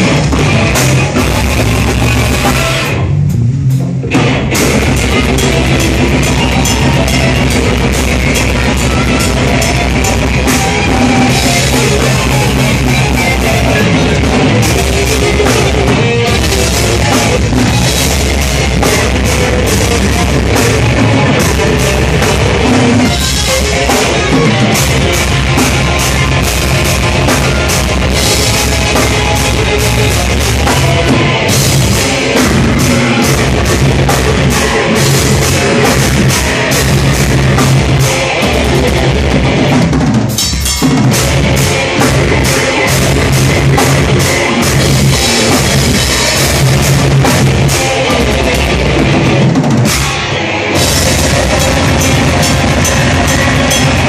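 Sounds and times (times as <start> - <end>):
bass drum and cymbals: 0.0 - 54.0
metal band playing live: 0.0 - 54.0.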